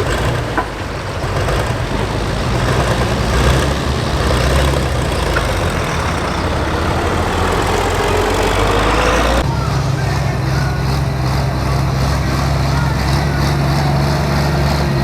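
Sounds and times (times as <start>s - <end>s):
tractor diesel engine running hard: 0.0s - 15.0s.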